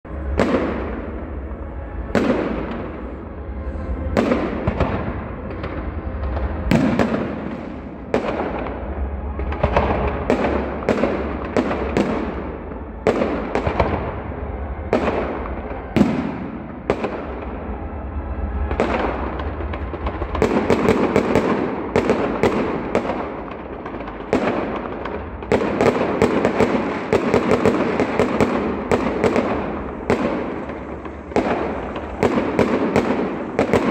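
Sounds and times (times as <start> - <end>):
fireworks bursting: 0.1 - 33.9.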